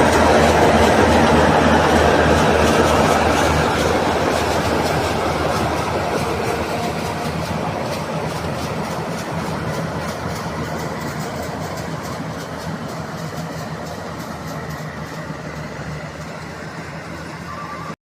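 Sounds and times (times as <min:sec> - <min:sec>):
rapid mechanical rattle: 0:00.0 - 0:17.4
harvester engine hum: 0:00.0 - 0:18.0.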